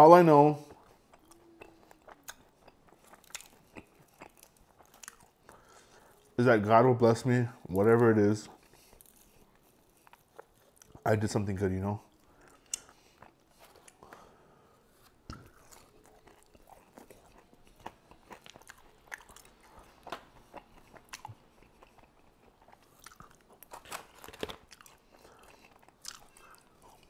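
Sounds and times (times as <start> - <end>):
chewing crispy fried chicken: 0.6 - 6.4, 8.4 - 11.3, 12.0 - 27.0.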